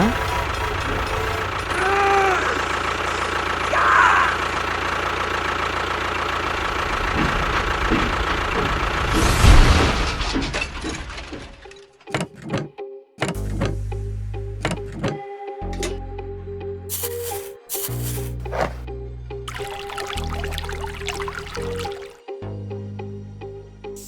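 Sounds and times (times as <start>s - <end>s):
small engine pulsing rumble: 0.0s - 11.8s, 13.3s - 24.0s.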